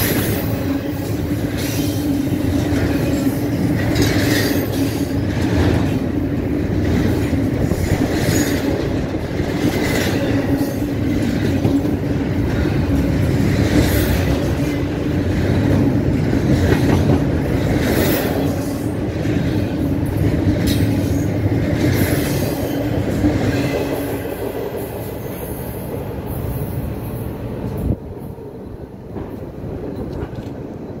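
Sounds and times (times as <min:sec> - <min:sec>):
freight train wheels clattering: 0:00.0 - 0:31.0.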